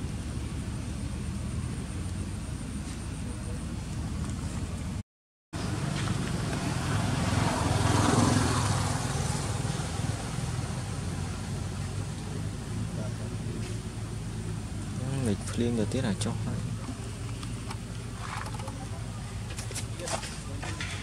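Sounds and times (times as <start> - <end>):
vehicle engine hum passing: 0.0 - 5.0, 5.6 - 21.0.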